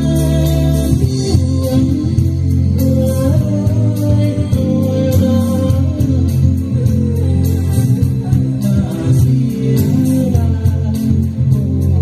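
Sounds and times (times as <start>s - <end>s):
band music: 0.0s - 12.0s
plucked guitar: 0.0s - 12.0s.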